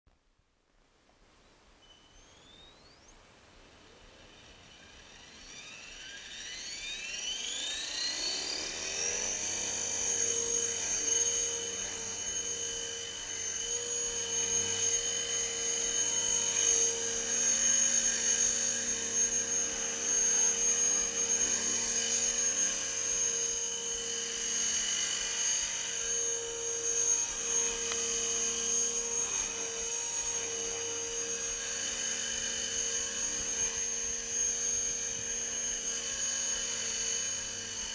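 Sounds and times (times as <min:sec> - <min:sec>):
electric helicopter motor whine: 0:01.8 - 0:37.9
rotor buzz: 0:04.1 - 0:37.9.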